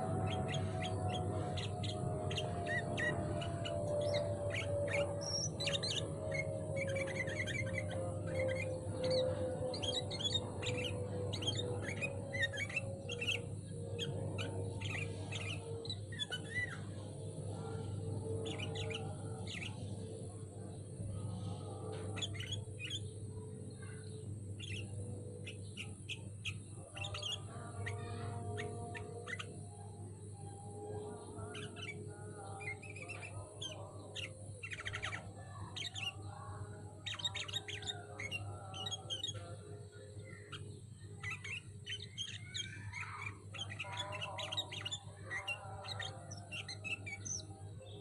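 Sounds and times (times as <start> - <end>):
birds chirping and trilling: 0.0 - 48.0
steady low hum: 0.0 - 48.0.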